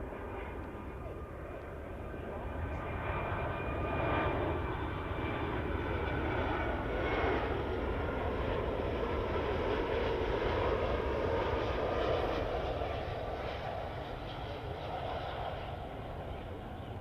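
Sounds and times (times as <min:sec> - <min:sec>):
jet airliner passing low: 0:00.0 - 0:17.0
jet engine whine: 0:00.0 - 0:17.0.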